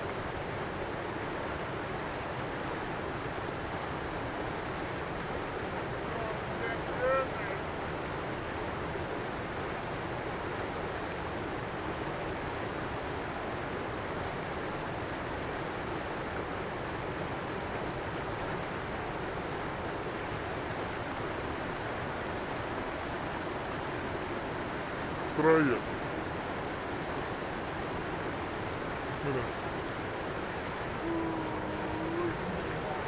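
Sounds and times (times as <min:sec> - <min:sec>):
waterfall and rushing stream: 0:00.0 - 0:33.0.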